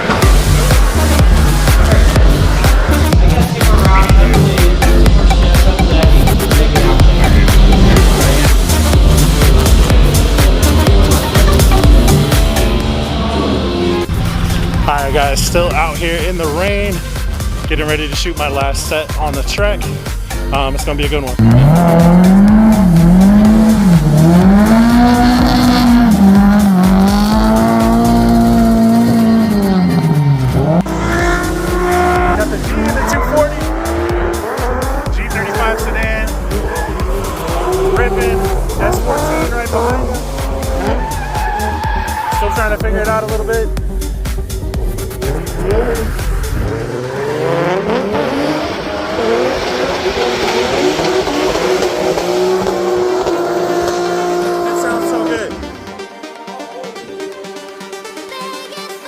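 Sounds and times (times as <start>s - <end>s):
car engine at high revs: 0.0s - 15.1s, 21.2s - 41.9s, 43.9s - 55.8s.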